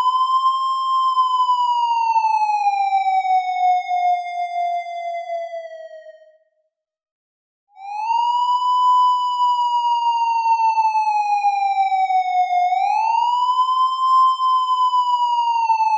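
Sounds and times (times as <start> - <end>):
police siren wailing: 0.0 - 6.2, 7.8 - 15.9.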